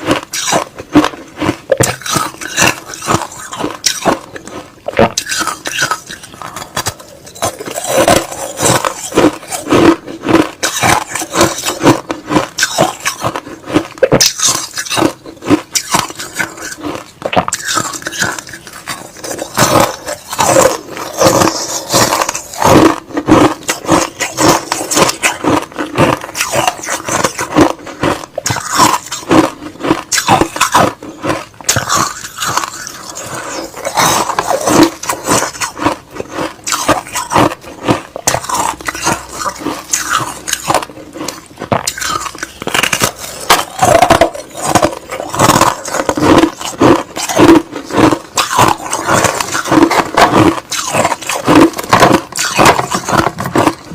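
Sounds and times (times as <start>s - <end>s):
crushed ice being chewed: 0.0s - 53.9s.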